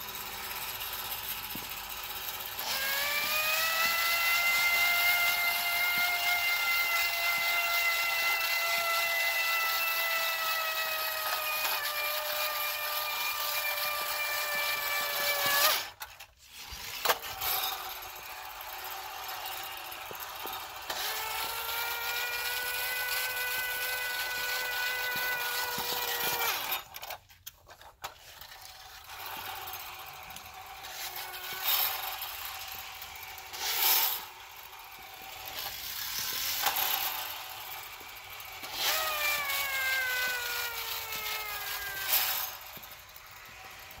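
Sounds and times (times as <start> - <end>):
clockwork toy motor whirring: 0.0 - 44.0.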